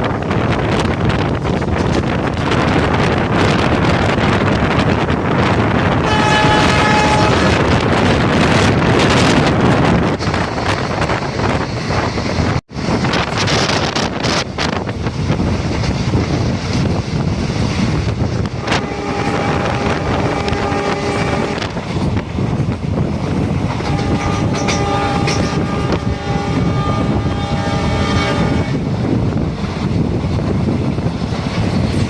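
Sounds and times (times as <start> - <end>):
moving train running noise: 0.0 - 32.0
wind buffeting microphone: 0.0 - 32.0.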